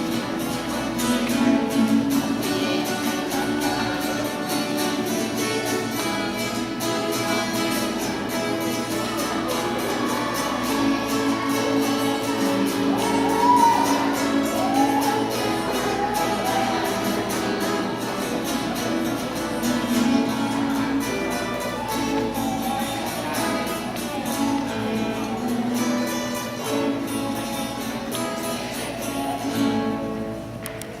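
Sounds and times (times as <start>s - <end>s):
acoustic guitar strummed and plucked: 0.0s - 31.0s.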